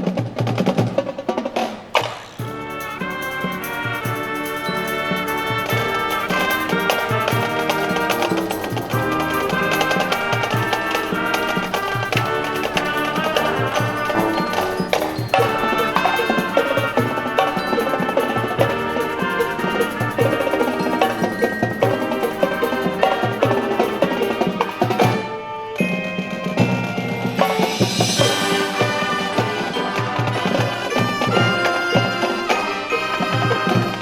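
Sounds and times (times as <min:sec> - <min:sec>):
marching drums: 0:00.0 - 0:34.0
percussion crash: 0:00.0 - 0:34.0
mallet percussion: 0:01.5 - 0:34.0
brass playing a tune: 0:02.4 - 0:34.0.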